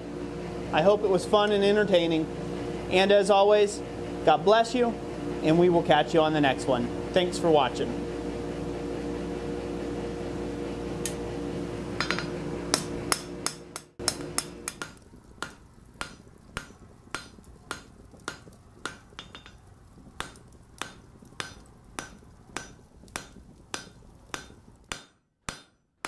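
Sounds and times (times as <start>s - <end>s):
forge humming: 0.0s - 25.7s.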